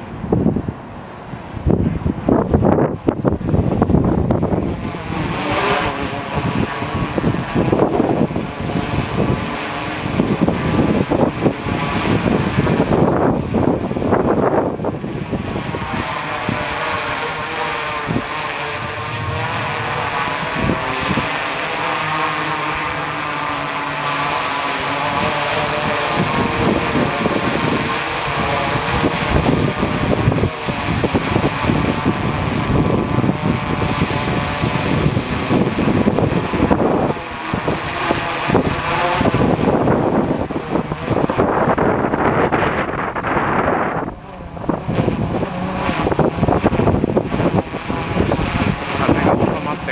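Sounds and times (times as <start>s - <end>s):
drone propellers buzzing: 0.0s - 49.9s
wind buffeting microphone: 0.0s - 49.9s.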